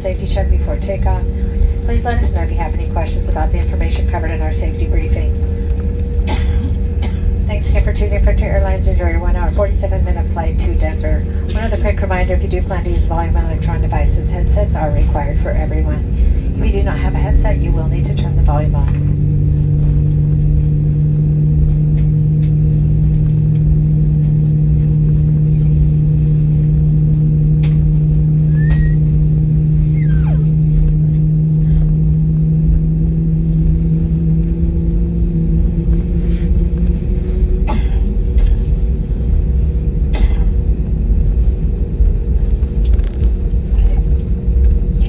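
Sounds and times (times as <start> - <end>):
jet engine cabin drone: 0.0 - 45.0.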